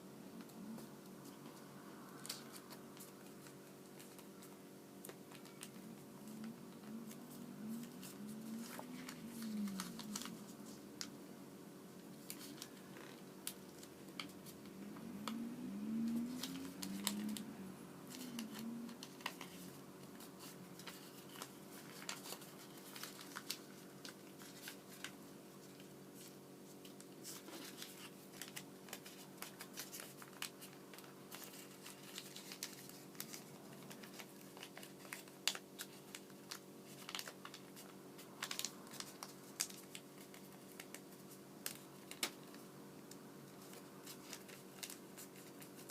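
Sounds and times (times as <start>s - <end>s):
faint steady background hum: 0.0s - 45.9s
paper being folded and creased: 0.4s - 11.1s, 12.2s - 42.6s, 43.5s - 45.9s.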